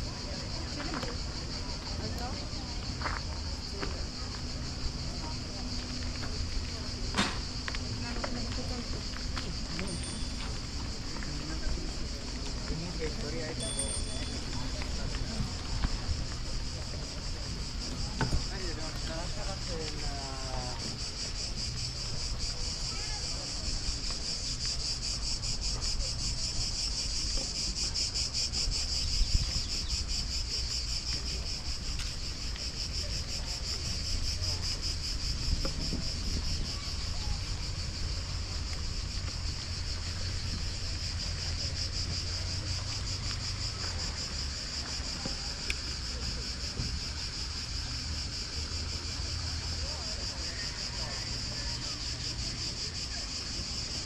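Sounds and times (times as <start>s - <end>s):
insects chorus pulsing: 0.0s - 54.0s.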